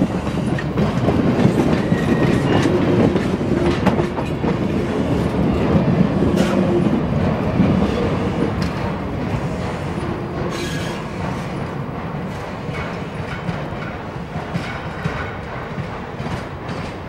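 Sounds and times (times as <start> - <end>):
train rumbling along track: 0.0 - 17.0
wheels clicking over rail joints: 0.1 - 17.0.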